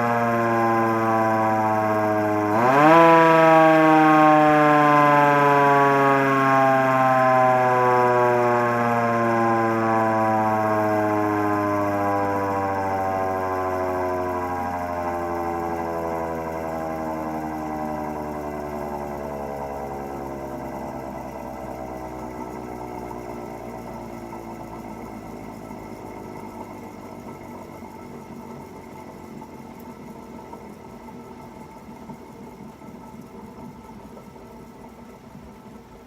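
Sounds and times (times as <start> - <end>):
air raid siren winding down: 0.0 - 29.2.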